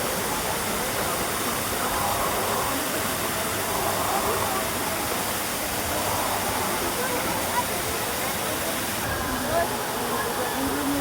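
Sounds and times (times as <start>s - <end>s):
faint voices: 0.0s - 11.0s
waterfall pouring: 0.0s - 11.0s.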